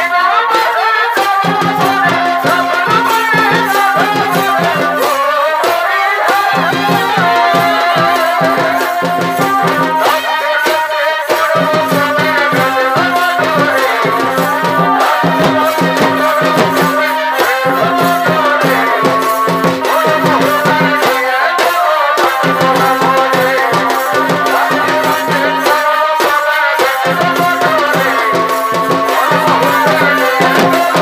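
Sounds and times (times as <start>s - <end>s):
drums beating a running rhythm: 0.0s - 31.0s
sharp bright percussion strokes: 0.0s - 31.0s.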